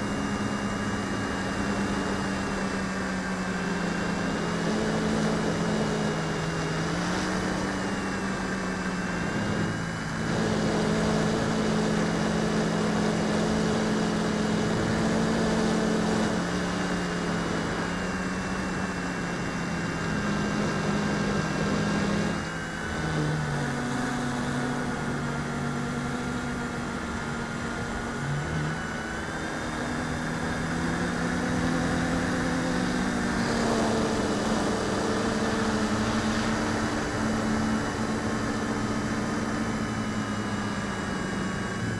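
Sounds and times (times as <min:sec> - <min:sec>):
quadcopter propellers buzzing: 0:00.0 - 0:41.9.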